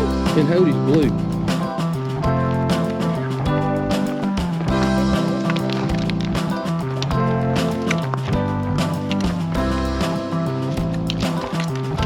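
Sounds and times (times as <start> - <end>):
instrumental chords: 0.0 - 12.0
percussion hits: 0.0 - 12.0.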